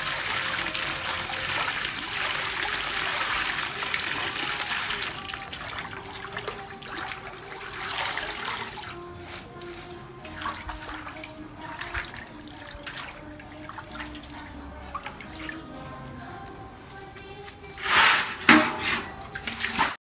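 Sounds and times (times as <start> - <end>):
background music: 0.0 - 20.0
water sloshing and splashing: 0.0 - 20.0.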